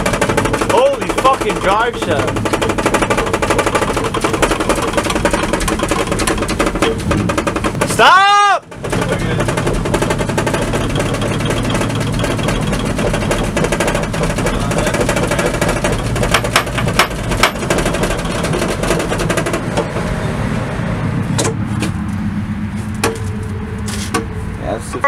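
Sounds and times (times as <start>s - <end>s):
hard knocks: 0.0s - 20.1s, 23.0s - 23.3s
drive shaft rattling and banging: 0.0s - 25.0s.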